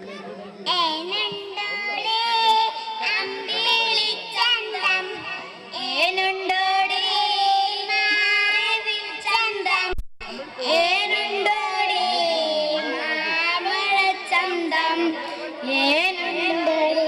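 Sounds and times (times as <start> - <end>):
girl singing into a microphone: 0.6 - 17.0.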